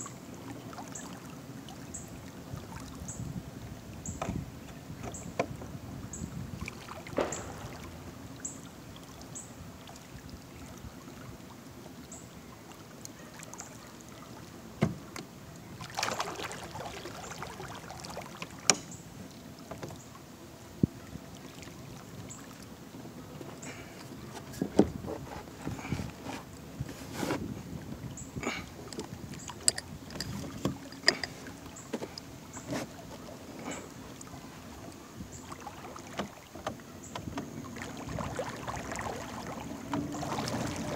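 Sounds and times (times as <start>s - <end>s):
water washing along hull: 0.0s - 40.9s.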